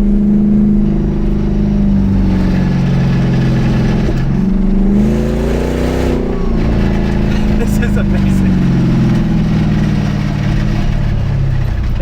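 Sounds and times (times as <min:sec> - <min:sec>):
loud car exhaust drone: 0:00.0 - 0:12.0.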